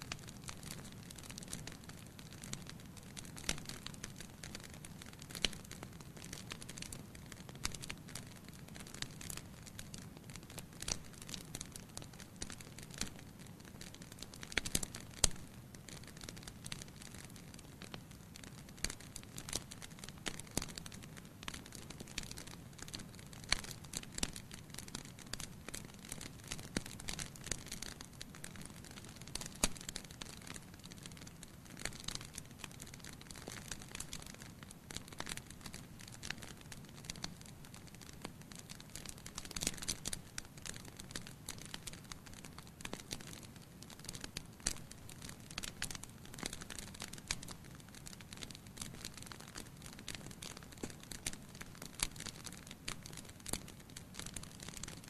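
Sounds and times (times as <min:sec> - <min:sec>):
logs crackling and popping: 0:00.0 - 0:55.0.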